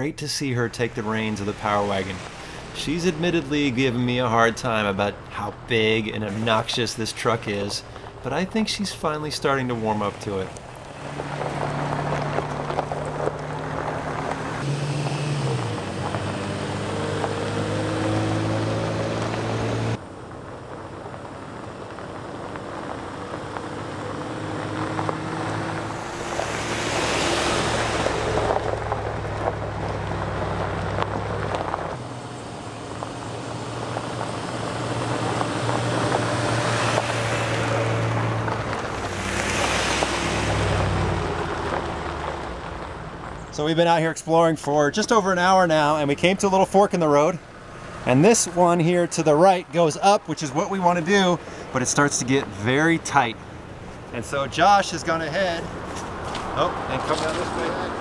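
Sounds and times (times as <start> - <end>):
vehicle engines running: 0.0 - 58.0
tyres crunching on gravel: 0.4 - 58.0.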